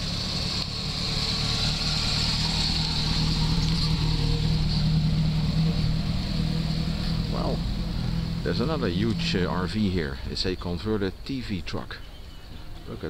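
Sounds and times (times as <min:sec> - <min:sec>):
motorhome engine driving past: 0:00.0 - 0:13.0.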